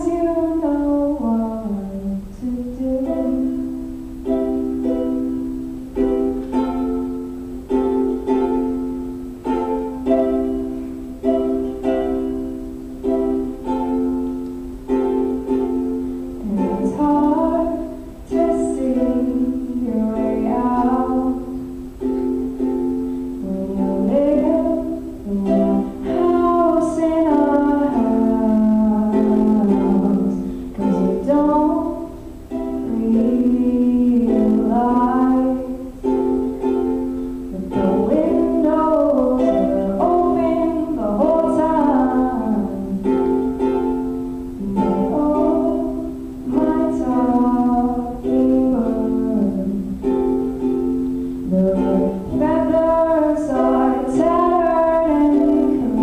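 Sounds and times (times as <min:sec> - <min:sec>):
plucked acoustic string chords: 0:00.0 - 0:56.0
woman singing slow song: 0:00.0 - 0:56.0.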